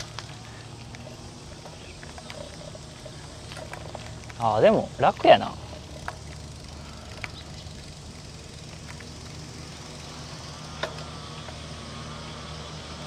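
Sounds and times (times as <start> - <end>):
bike tyre rumble: 0.0 - 13.0.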